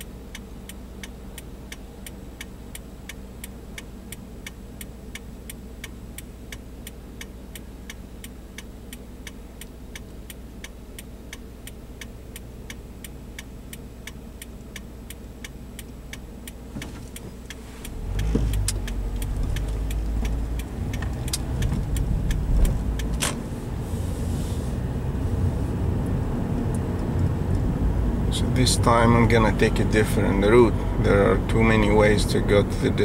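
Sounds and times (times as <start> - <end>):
car engine: 0.0 - 33.0
road noise: 0.0 - 33.0
turn signal ticking: 0.0 - 33.0.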